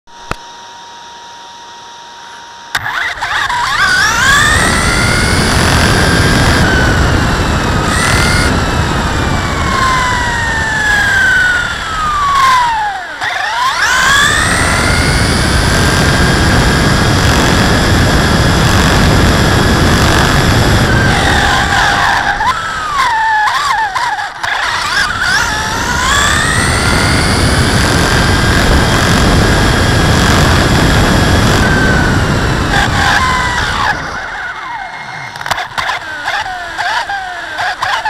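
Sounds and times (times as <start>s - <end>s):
electric motor and gears whine: 0.1s - 38.0s.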